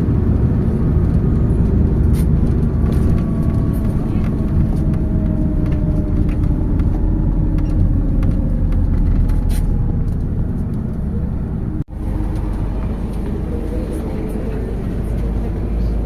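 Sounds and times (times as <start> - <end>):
bus engine and road rumble: 0.0 - 16.0
faint engine tone: 0.0 - 16.0.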